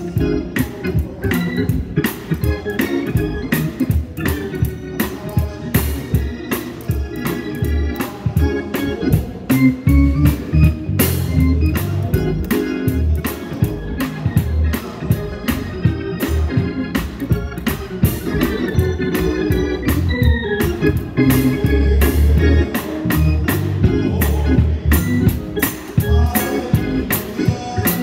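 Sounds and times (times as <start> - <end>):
organ chords: 0.0 - 28.0.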